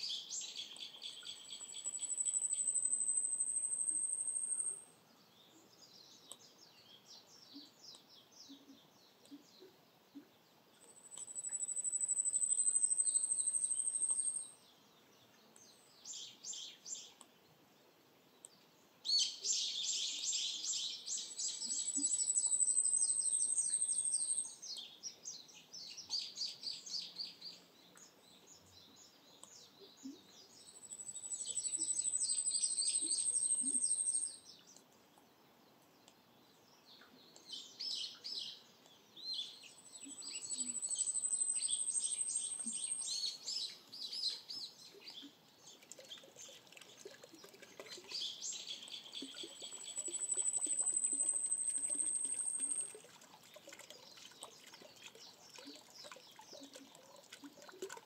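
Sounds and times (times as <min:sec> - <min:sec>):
songbird singing trills: 0:00.0 - 0:17.2, 0:18.5 - 0:34.8, 0:36.0 - 0:53.0.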